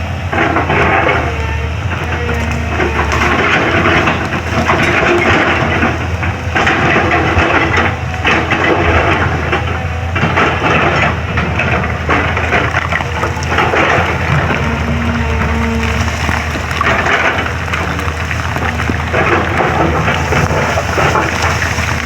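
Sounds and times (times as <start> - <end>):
bucket crushing road surface: 0.0 - 22.0
excavator engine drone: 0.0 - 22.0.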